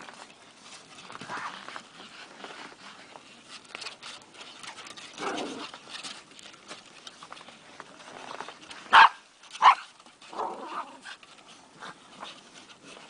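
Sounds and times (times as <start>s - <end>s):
crunching and scuffling in snow: 0.0s - 13.0s.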